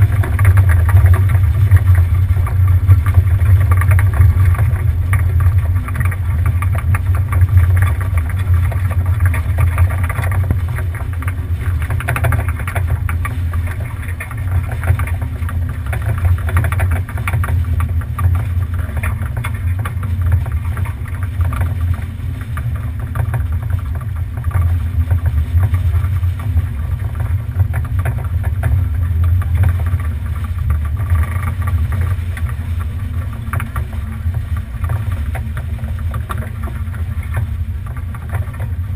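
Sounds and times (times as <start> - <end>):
water washing along hull: 0.0 - 38.9
wind buffeting microphone: 0.0 - 38.9.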